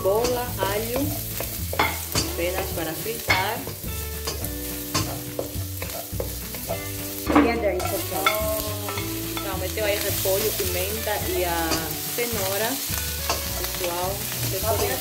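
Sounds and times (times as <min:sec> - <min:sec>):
shallots and garlic sizzling in oil: 0:00.0 - 0:15.0
wooden spatula scraping a wok: 0:00.1 - 0:15.0.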